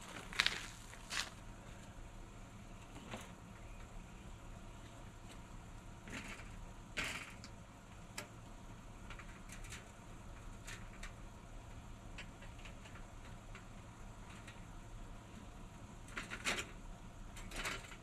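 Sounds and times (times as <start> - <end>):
low steady background hum: 0.0 - 18.0.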